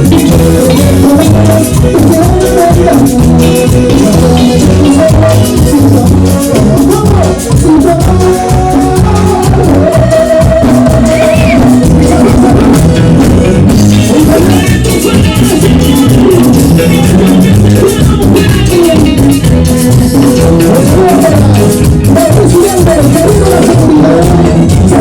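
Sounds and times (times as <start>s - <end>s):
live latin dance band music: 0.0s - 25.0s.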